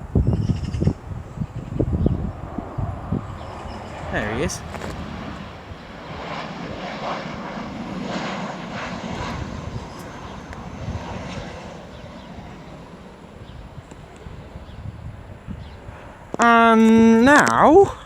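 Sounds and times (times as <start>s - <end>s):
jet airliner landing: 0.0s - 18.0s.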